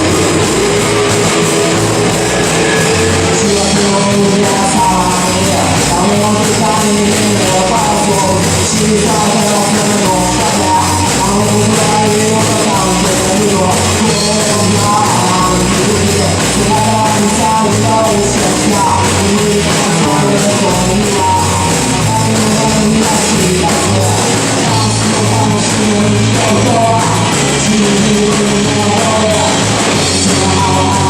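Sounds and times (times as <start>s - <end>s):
rock band playing live: 0.0s - 31.0s.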